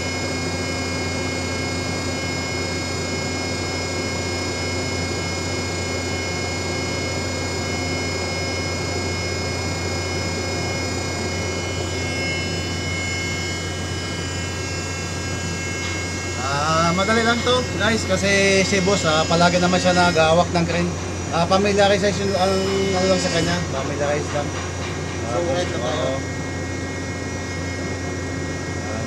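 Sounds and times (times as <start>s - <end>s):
crane power unit drone: 0.0s - 29.0s
high whining tones: 0.0s - 29.0s.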